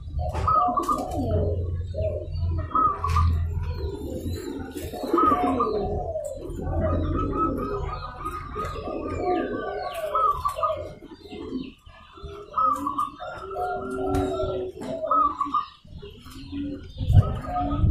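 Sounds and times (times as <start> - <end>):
doves cooing: 0.0 - 17.9.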